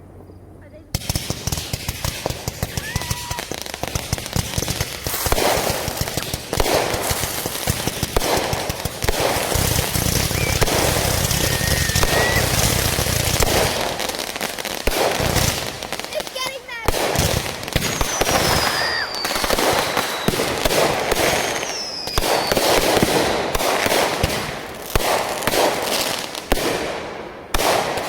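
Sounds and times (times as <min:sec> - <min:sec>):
firecracker pops and crackling: 0:00.9 - 0:28.0.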